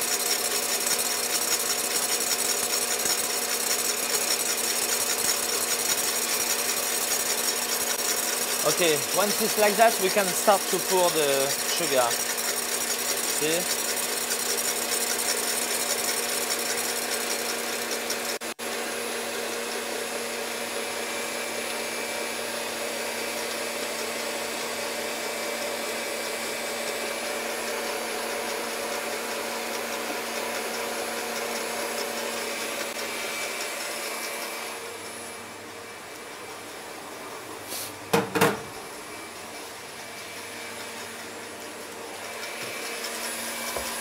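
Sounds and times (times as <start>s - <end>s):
stand mixer motor whirring: 0.0s - 37.5s, 38.1s - 44.0s.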